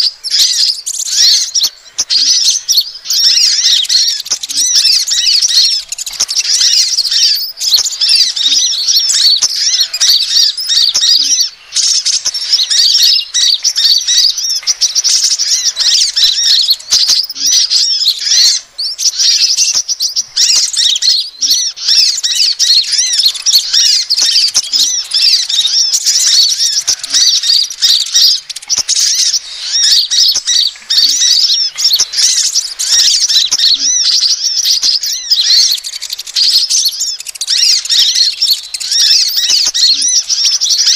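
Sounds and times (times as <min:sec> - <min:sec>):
chorus of high-pitched bird chirps: 0:00.0 - 0:40.9.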